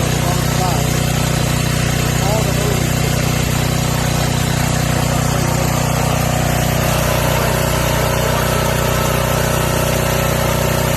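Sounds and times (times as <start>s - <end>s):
generator engine running: 0.0s - 10.9s.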